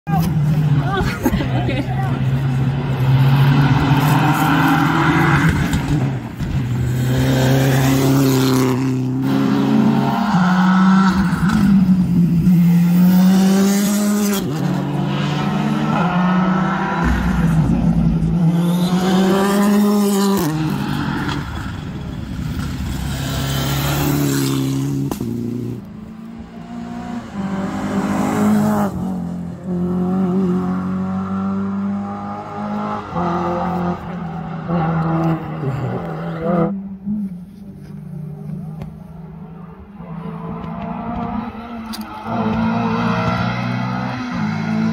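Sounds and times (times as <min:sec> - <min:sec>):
car engine at full throttle: 0:00.1 - 0:44.9.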